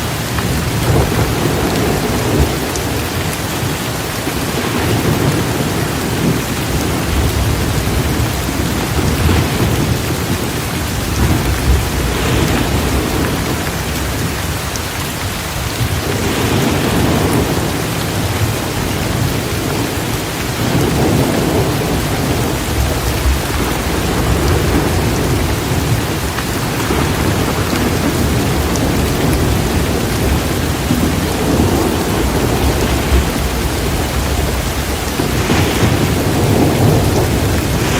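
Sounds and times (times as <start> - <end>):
low thunder rumbling: 0.0 - 37.9
torrential rain pouring: 0.0 - 37.9.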